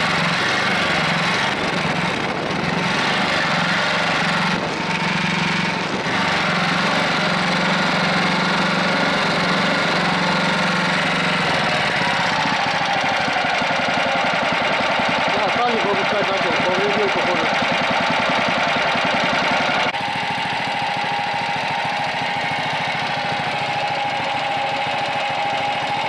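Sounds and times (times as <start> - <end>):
small petrol engine idling: 0.0 - 26.0.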